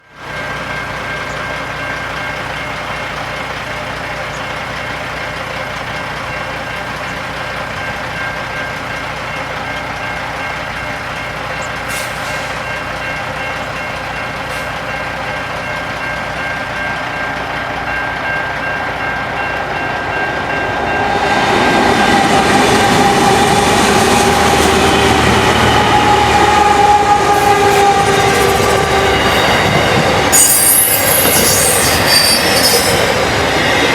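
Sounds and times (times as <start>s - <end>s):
freight train rumbling: 0.0s - 33.9s
wheels squealing on rails: 0.2s - 33.9s.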